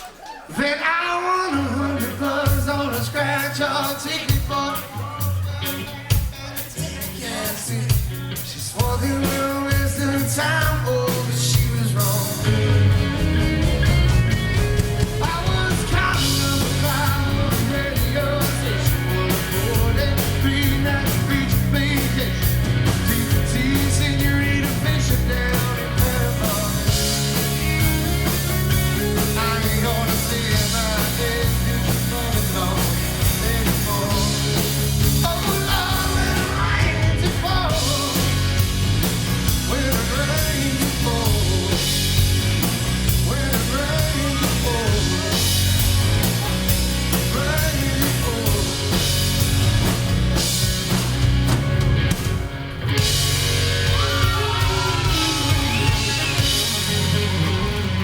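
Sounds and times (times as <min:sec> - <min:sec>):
live country rock band: 0:00.0 - 0:58.0
lead singer singing: 0:00.5 - 0:42.2, 0:42.8 - 0:49.4, 0:53.6 - 0:58.0.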